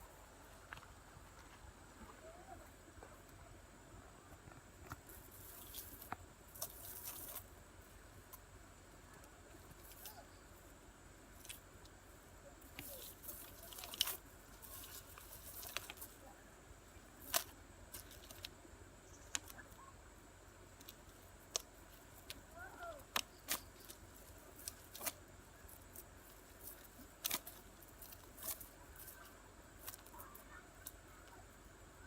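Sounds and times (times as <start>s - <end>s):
faint rustles: 0.0s - 20.0s, 20.7s - 32.0s.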